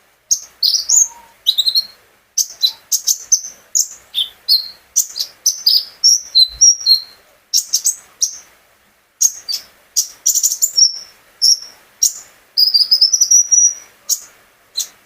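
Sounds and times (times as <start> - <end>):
songbird chirping and whistling: 0.3 - 8.5, 9.2 - 15.0.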